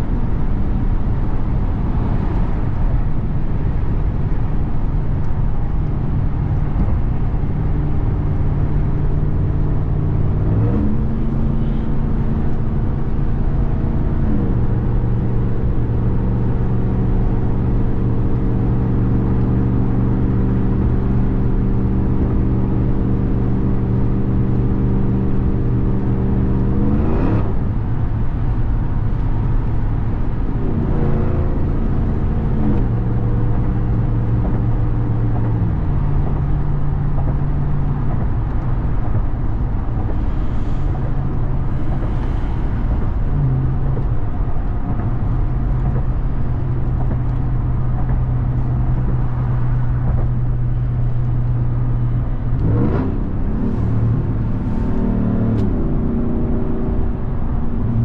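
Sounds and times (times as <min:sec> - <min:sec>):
engine running while driving: 0:00.0 - 0:58.0
road rumble: 0:00.0 - 0:58.0.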